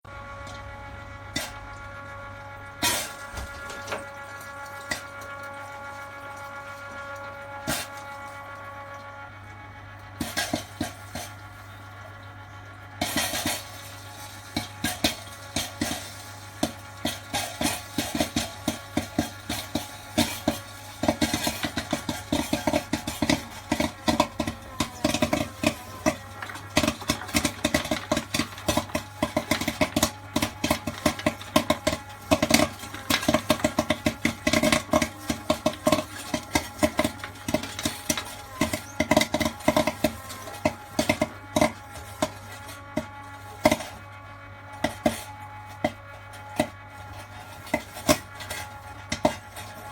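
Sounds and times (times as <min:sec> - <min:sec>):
popcorn machine hum: 0:00.0 - 0:49.9
popcorn popping: 0:00.1 - 0:49.9.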